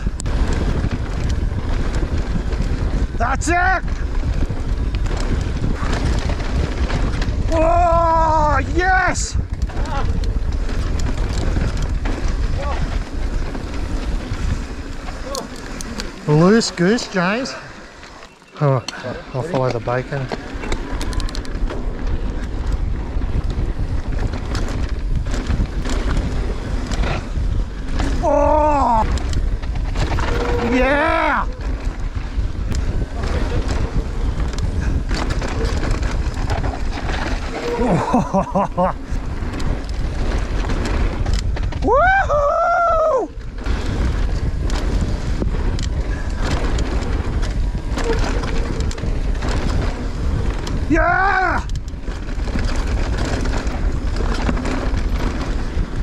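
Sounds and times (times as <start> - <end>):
bike rattles and knocks: 0.0 - 56.0
bike tyres rolling over dirt: 0.0 - 56.0
wind buffeting microphone: 0.0 - 56.0.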